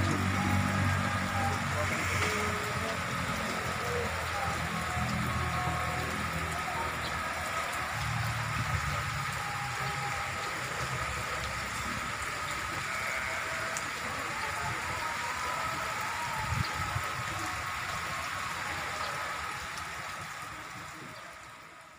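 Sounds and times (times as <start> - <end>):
heavy rain pattering: 0.0 - 21.9.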